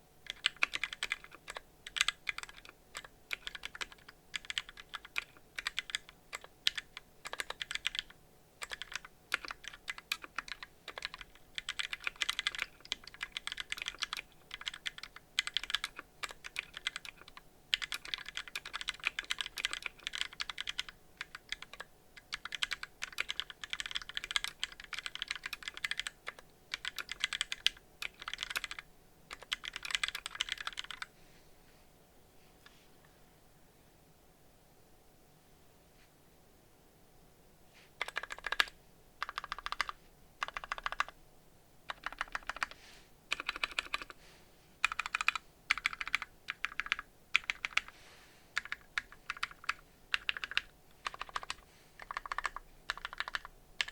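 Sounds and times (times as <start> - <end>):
mechanical keyboard typing: 0.2 - 31.1, 38.0 - 41.2, 41.9 - 44.2, 44.8 - 47.9, 48.6 - 53.9.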